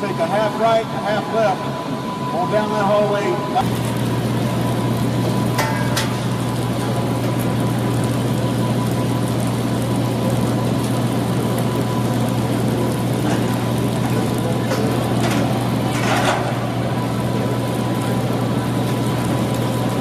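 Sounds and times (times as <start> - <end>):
faint steady whine: 0.0 - 20.0
loud mechanical drone: 0.0 - 20.0
low hum: 0.0 - 20.0.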